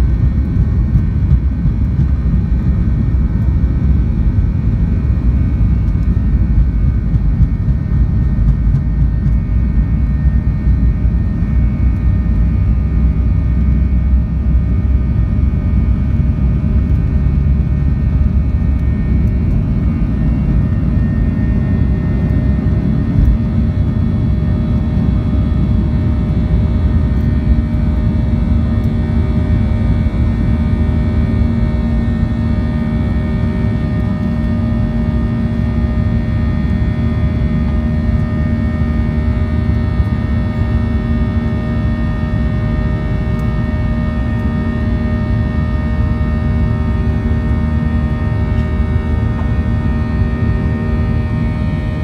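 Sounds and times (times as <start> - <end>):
jet engines roaring: 0.0 - 52.0
wheels rumbling on runway: 0.0 - 52.0.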